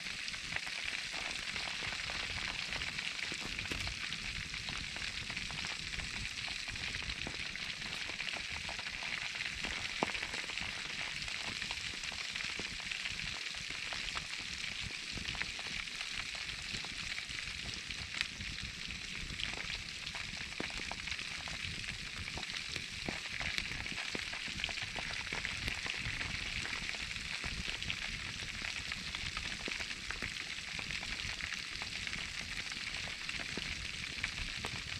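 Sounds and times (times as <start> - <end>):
fire crackles and pops: 0.0 - 34.9
meat sizzling in a fire: 0.0 - 34.9.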